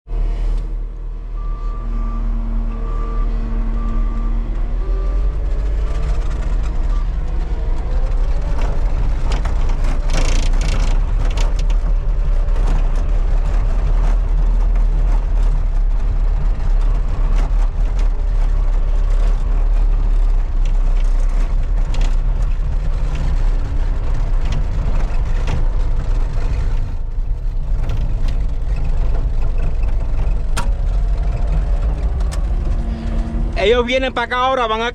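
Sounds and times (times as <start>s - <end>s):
diesel machinery rumbling: 0.1s - 34.9s.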